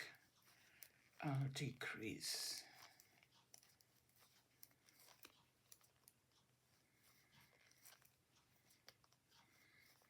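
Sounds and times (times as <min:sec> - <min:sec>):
knitting needles clicking: 0:00.0 - 0:10.0.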